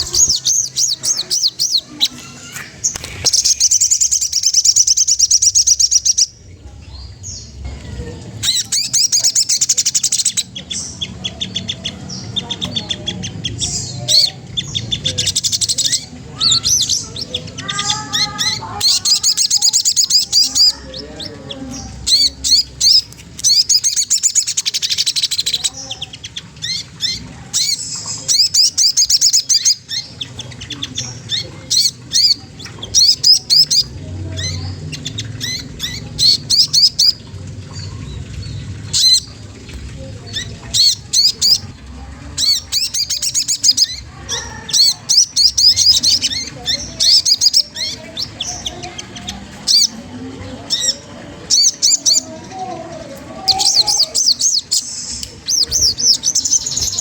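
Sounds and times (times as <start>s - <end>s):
bird chirping rapidly: 0.0s - 6.4s, 8.4s - 39.5s, 40.2s - 41.8s, 42.4s - 50.0s, 53.4s - 57.0s.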